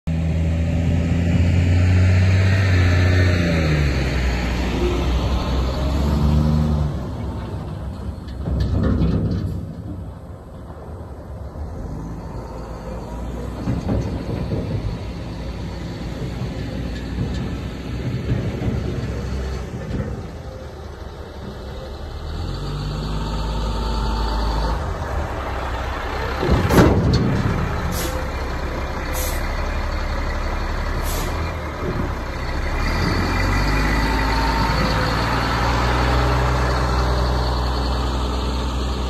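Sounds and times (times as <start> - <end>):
diesel truck engine pulling away: 0.1 - 39.0.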